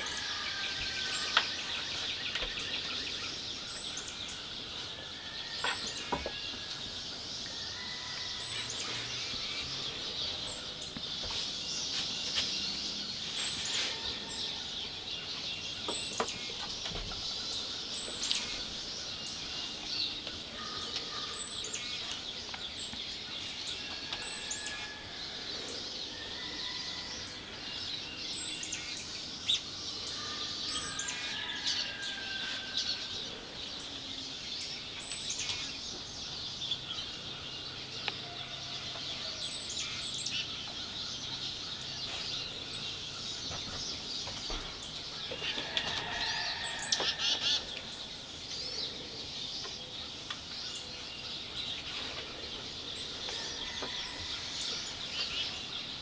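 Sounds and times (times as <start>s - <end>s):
songbirds chirping and calling: 0.0s - 56.0s.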